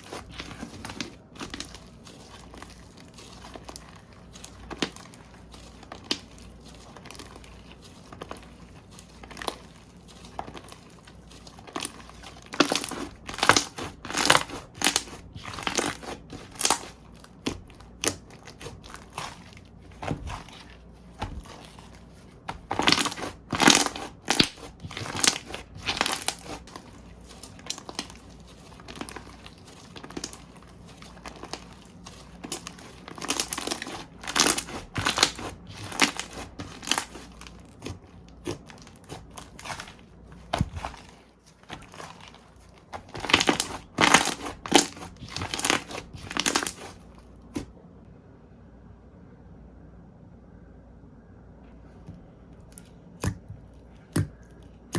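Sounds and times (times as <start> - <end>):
hand handling slime: 0.0 - 47.7, 51.9 - 54.9
slime crackling and popping: 0.0 - 47.7.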